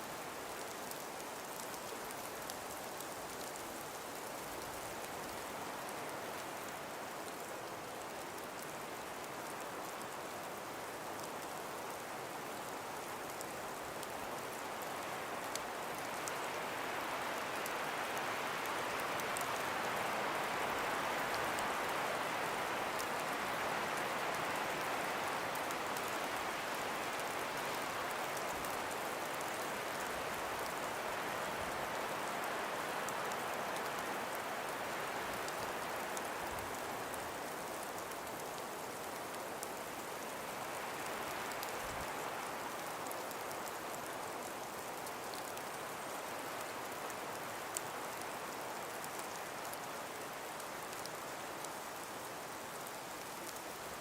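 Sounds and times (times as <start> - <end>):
breeze through trees: 0.0 - 54.0.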